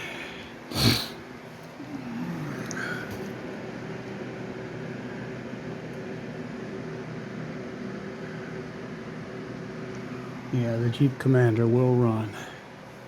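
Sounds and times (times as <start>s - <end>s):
mechanical hum with whoosh: 0.0s - 13.0s.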